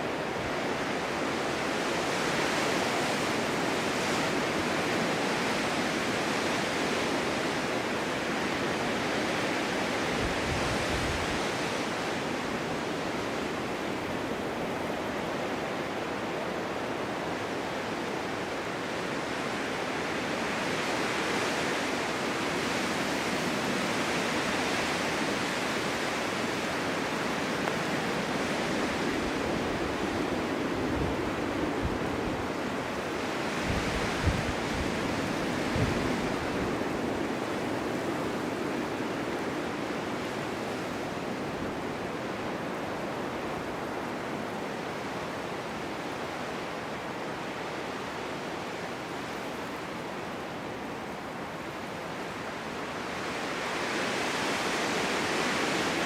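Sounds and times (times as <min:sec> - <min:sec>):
strong wind blowing: 0:00.0 - 0:56.0.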